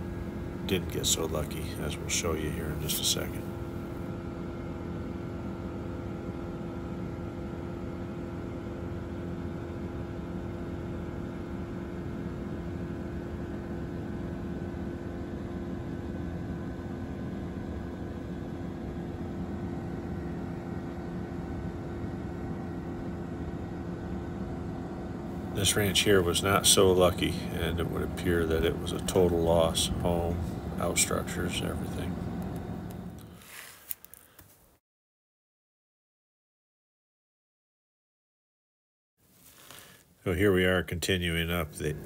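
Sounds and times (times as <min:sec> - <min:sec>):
aircraft engine drone from cabin: 0:00.0 - 0:33.6, 0:40.3 - 0:42.0.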